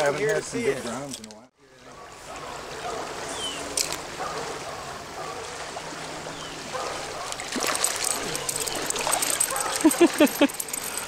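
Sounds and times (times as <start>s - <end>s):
stream water trickling: 0.0s - 11.0s.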